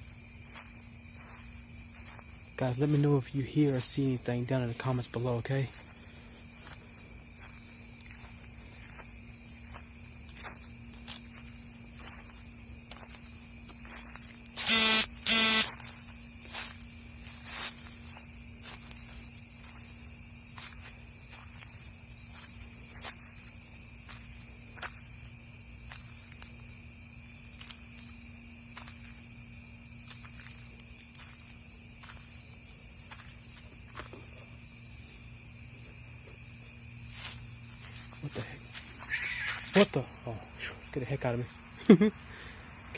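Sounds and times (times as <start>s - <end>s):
night insects calling: 0.0s - 42.9s.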